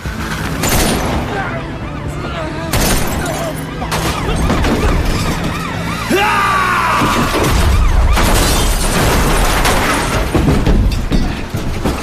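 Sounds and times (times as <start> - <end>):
dramatic music: 0.0 - 10.9.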